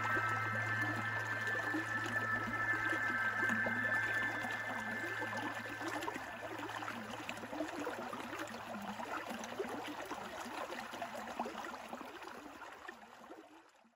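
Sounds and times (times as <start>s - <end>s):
stream running over rocks: 0.0s - 13.3s.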